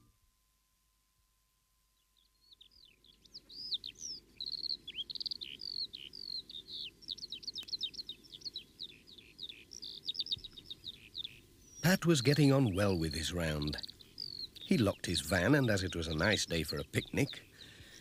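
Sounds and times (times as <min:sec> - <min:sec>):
faint background noise: 0:00.0 - 0:18.0
songbird singing: 0:02.0 - 0:18.0.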